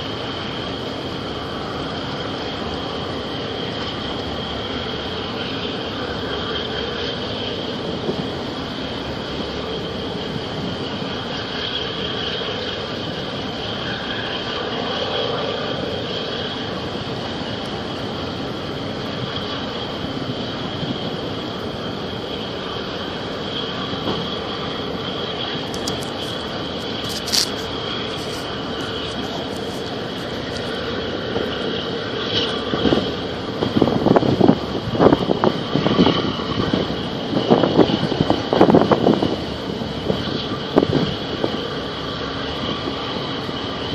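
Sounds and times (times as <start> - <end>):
steady rushing background: 0.0 - 43.8
diesel engine rumble: 0.0 - 43.9
high engine whine: 0.0 - 43.9.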